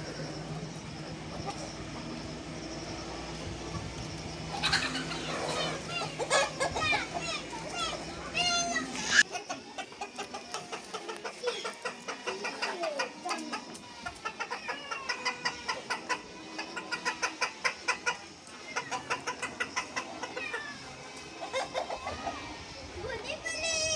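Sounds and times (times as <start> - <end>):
chickens clucking: 0.0 - 23.8.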